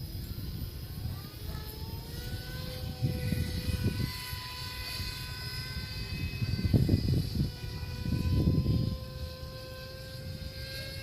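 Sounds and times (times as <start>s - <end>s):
model aircraft motor whining: 0.0s - 11.0s
wind noise gusts: 0.0s - 11.0s.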